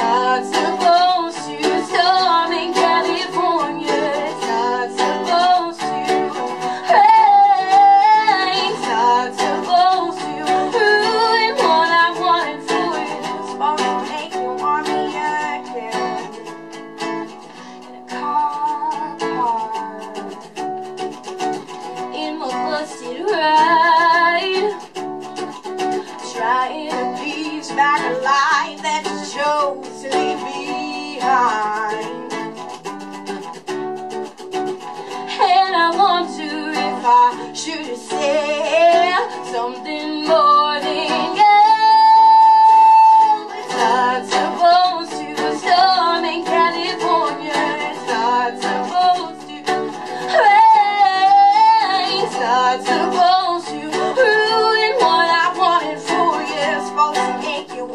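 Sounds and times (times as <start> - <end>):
woman singing: 0.0 - 33.5, 35.0 - 57.9
acoustic guitar: 0.0 - 57.9.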